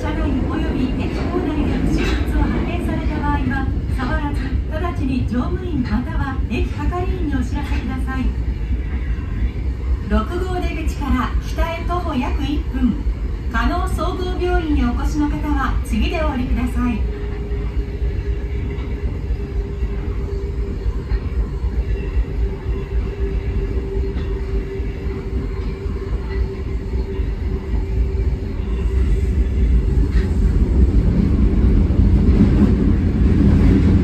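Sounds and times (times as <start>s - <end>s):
subway wheels rumbling on rail: 0.0s - 34.0s.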